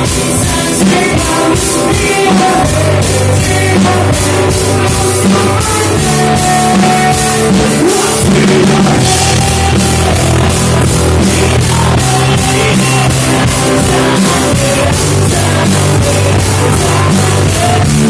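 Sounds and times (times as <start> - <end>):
bass guitar: 0.0 - 18.0
drum kit beat: 0.0 - 18.0
electric guitar: 0.0 - 18.0.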